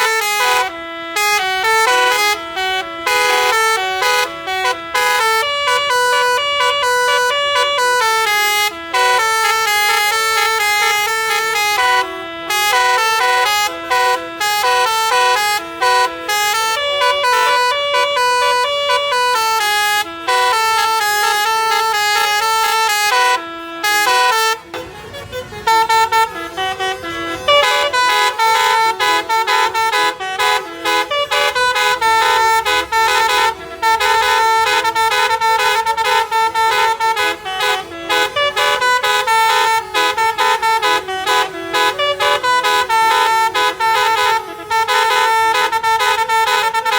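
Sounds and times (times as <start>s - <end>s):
musical bus horn tunes: 0.0s - 46.9s.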